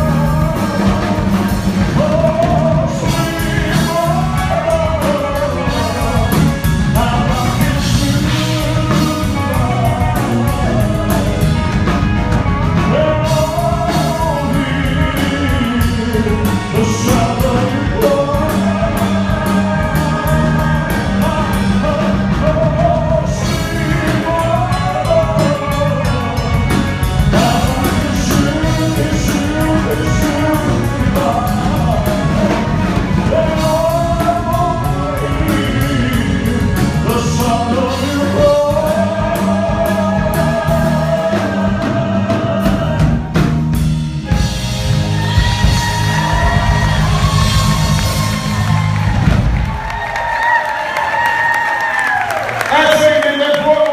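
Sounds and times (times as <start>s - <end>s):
rock band playing a ballad: 0.0s - 53.9s.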